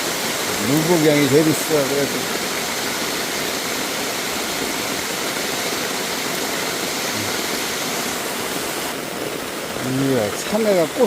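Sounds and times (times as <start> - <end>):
runoff water rushing down ditch: 0.0 - 11.0.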